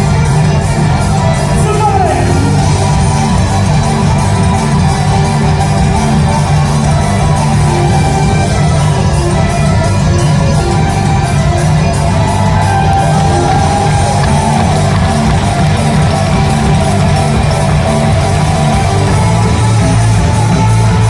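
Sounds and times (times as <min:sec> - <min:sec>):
folk dance tune: 0:00.0 - 0:21.0.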